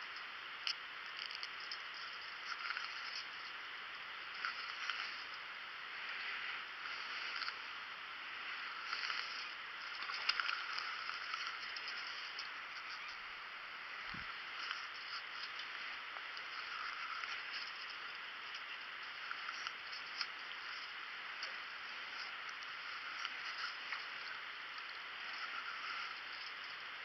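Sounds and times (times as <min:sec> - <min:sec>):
soft rustles and clicks: 0:00.0 - 0:27.0.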